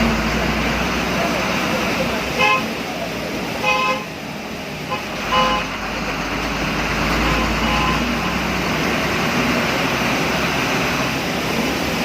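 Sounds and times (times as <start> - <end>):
bus engine droning: 0.0 - 12.0
road hiss: 0.0 - 12.0.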